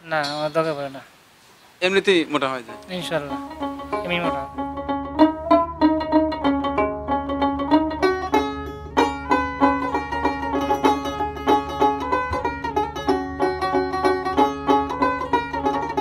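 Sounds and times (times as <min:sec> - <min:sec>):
plucked string music with beat: 0:02.7 - 0:16.0.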